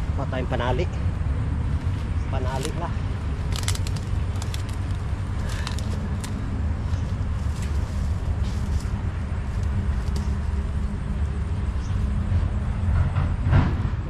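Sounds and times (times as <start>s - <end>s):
grass and clothing rustling: 1.5s - 12.8s.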